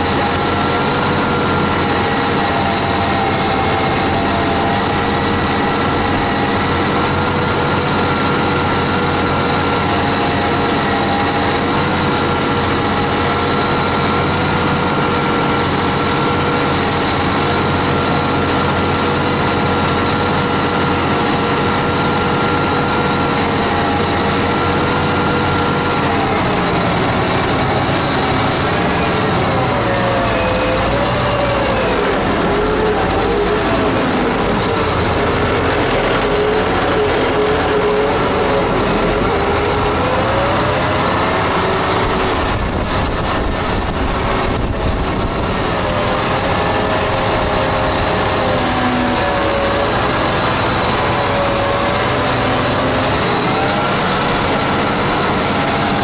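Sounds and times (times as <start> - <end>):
mechanical whine: 0.0 - 56.0
tractor diesel engine running: 0.0 - 56.0.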